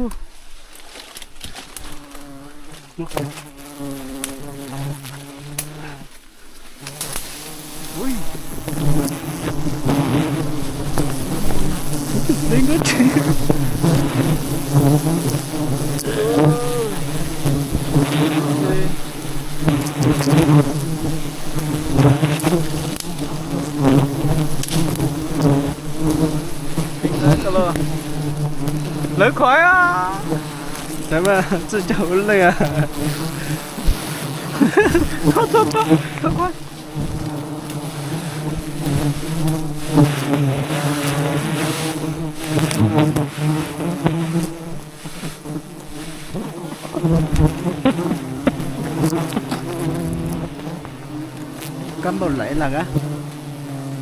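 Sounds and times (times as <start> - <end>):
honeybees buzzing: 0.8 - 54.0.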